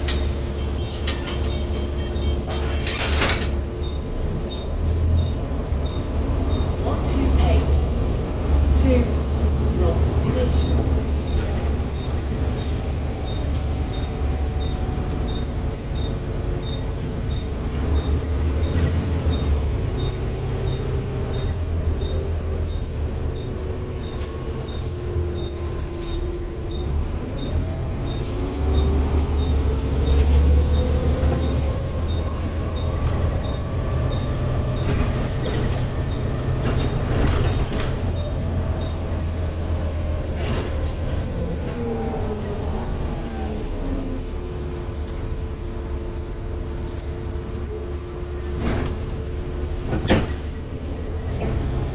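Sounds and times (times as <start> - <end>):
diesel bus engine rumbling: 0.0 - 51.9
engine and transmission whine: 0.0 - 51.9.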